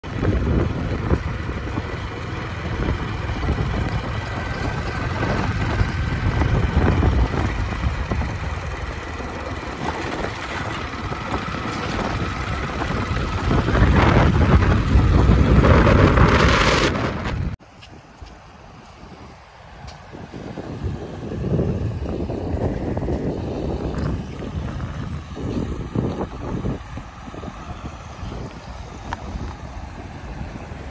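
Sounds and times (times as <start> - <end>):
vehicle engine and tyre noise: 0.0 - 30.9
wind buffeting microphone: 0.0 - 30.9.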